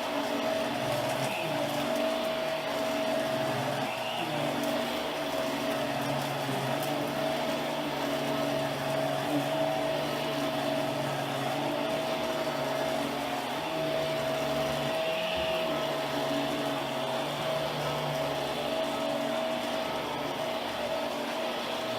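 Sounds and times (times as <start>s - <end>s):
upright vacuum cleaner running: 0.0s - 21.9s.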